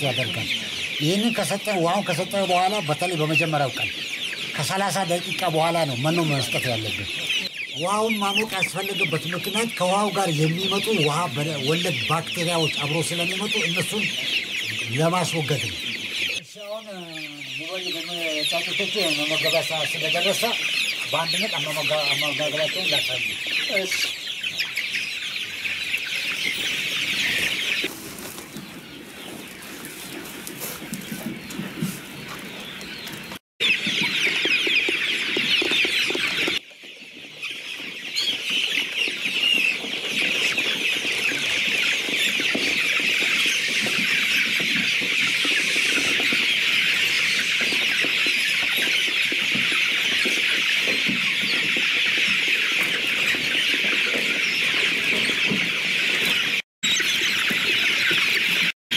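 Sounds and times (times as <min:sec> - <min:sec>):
chicks peeping: 0:00.0 - 0:58.8.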